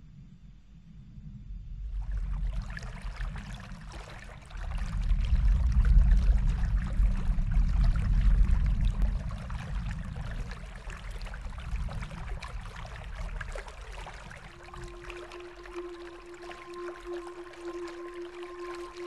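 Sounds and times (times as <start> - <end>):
deep low rumble: 0.0 - 19.0
running water: 2.0 - 19.0.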